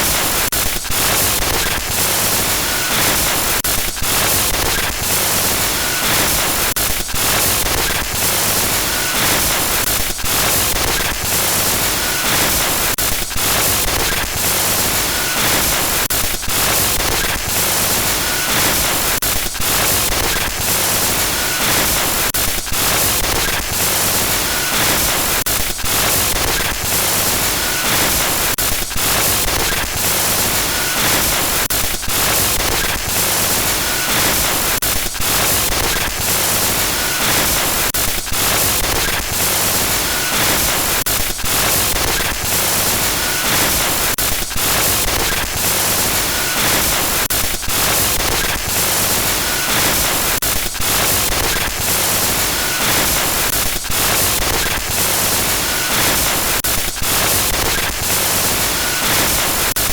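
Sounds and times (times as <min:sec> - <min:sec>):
glitchy static noise: 0:00.0 - 0:59.9.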